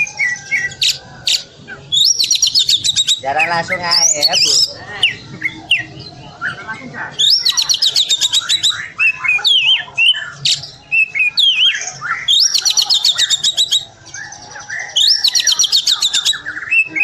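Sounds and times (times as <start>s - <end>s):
bird singing trilled bursts: 0.0s - 17.0s.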